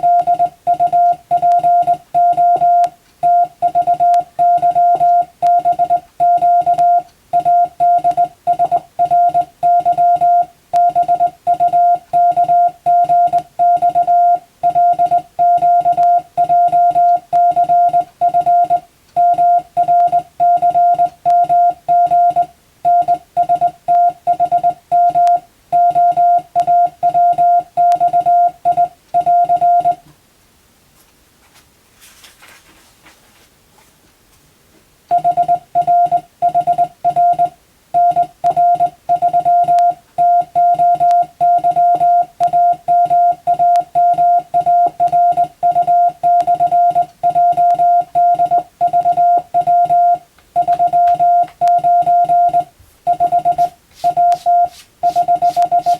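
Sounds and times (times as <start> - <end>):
morse code beeps: 0.0 - 30.0, 35.1 - 55.9.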